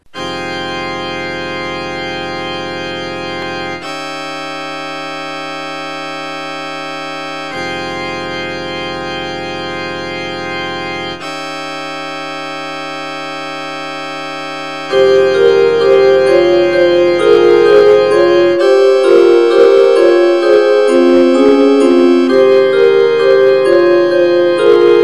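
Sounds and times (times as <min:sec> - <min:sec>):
sustained electronic keyboard chords: 0:00.0 - 0:25.0.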